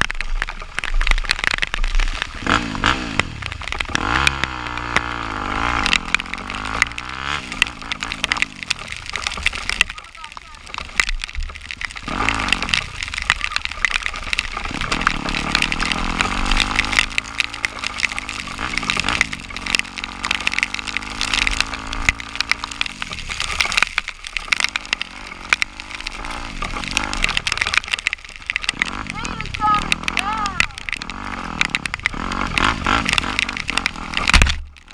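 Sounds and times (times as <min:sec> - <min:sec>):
rain crackling and splashing: 0:00.0 - 0:34.9
off-road vehicle engine revving: 0:02.4 - 0:10.8, 0:11.7 - 0:34.9.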